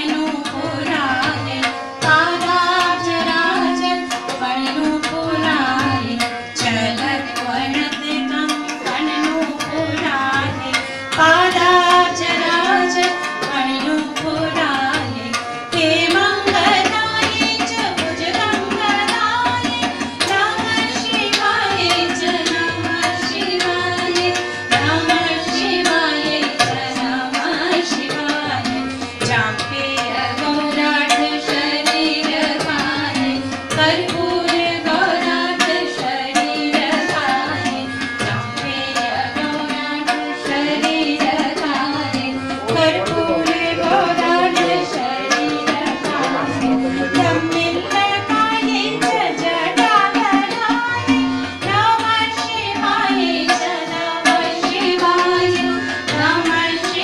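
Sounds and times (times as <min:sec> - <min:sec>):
person singing devotional song: 0:00.0 - 0:57.0
tabla drumming: 0:00.0 - 0:57.0.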